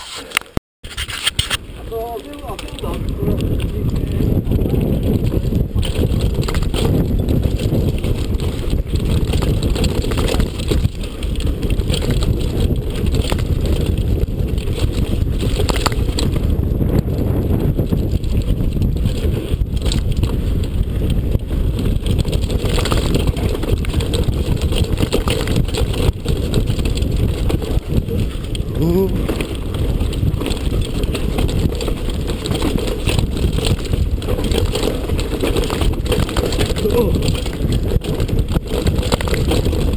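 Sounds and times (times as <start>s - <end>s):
mountain bike rattling on trail: 0.0s - 39.9s
sharp clacks over bumps: 0.0s - 39.9s
wind buffeting microphone: 0.9s - 39.9s.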